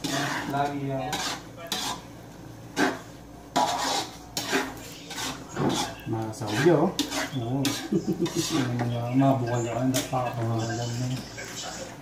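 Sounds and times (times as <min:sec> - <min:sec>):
light sizzle from pan: 0:00.0 - 0:11.2
utensil scraping a wok: 0:00.0 - 0:12.0.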